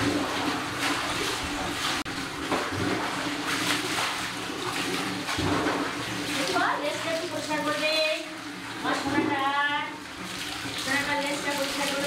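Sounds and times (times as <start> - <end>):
water splashing on dog and floor: 0.0 - 12.0.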